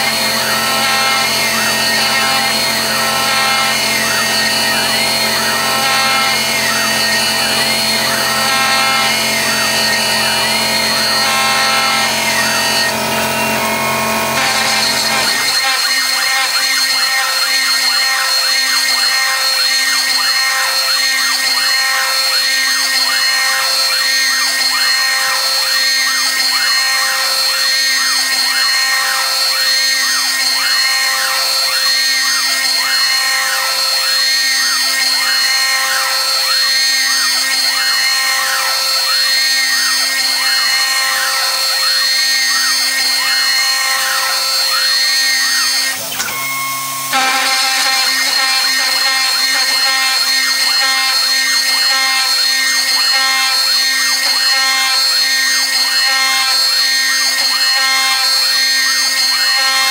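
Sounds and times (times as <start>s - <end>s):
end mill cutting aluminum: 0.0s - 59.9s
router spindle whine: 0.0s - 59.9s.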